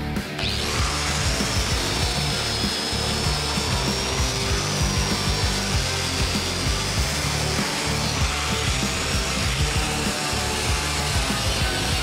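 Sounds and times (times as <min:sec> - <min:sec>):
background music with a beat: 0:00.0 - 0:12.0
wire wheel grinder scrubbing metal: 0:00.4 - 0:12.0.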